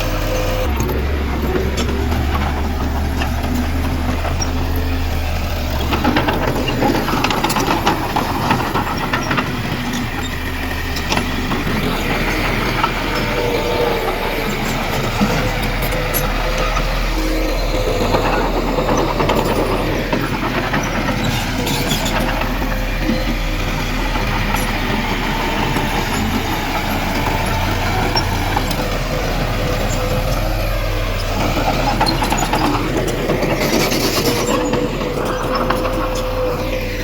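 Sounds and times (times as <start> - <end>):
diesel machinery engine whining: 0.0 - 37.0.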